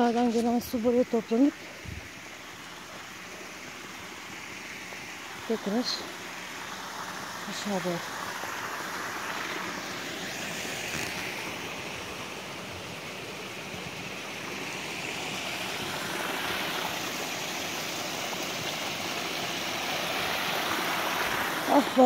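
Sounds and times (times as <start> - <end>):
water rushing downhill: 0.0 - 22.0.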